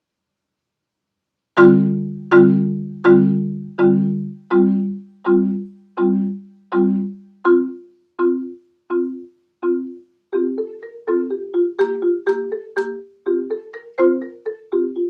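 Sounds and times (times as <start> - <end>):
marimba played with mallets: 1.6 - 15.0.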